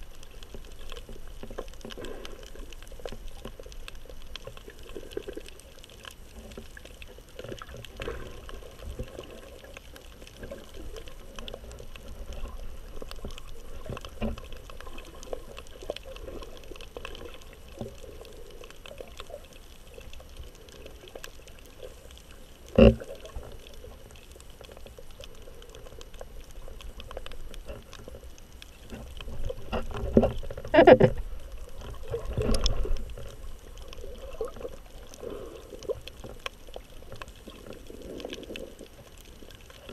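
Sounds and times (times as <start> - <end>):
faint crackling ticks: 0.0 - 39.9
water sloshing underwater: 0.0 - 39.9.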